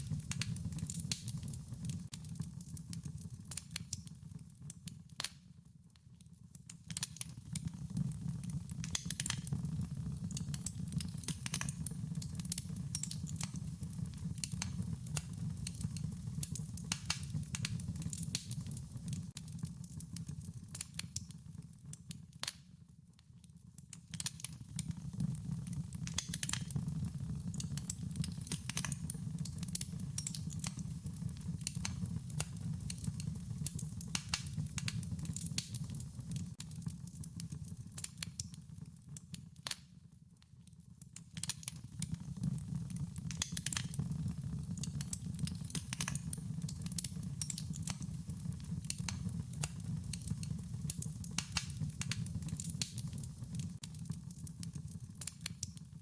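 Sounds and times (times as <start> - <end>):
fire popping and snapping: 0.0 - 5.5, 6.7 - 22.8, 23.8 - 39.9, 41.1 - 56.0
wood fire crackling: 0.0 - 5.5, 6.5 - 22.7, 23.7 - 40.0, 41.0 - 56.0.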